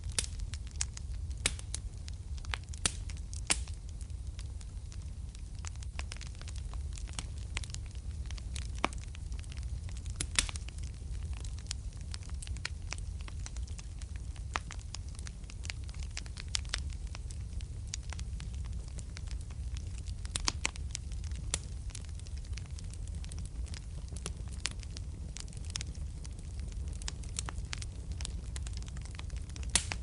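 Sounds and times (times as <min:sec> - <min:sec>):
fire crackling and popping: 0:00.0 - 0:30.0
fire rumbling: 0:00.0 - 0:30.0.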